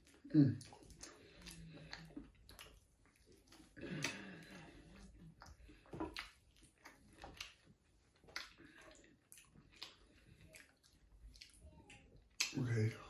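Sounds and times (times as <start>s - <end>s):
wet chewing clicks and smacks: 0.0s - 12.9s.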